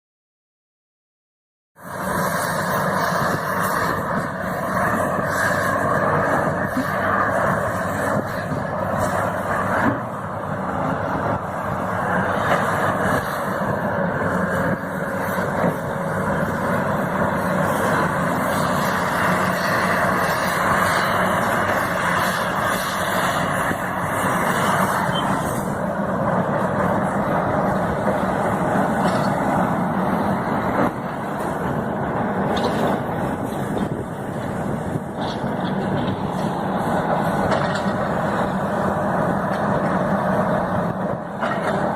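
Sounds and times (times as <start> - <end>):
excavator diesel engine running: 1.8 - 41.9.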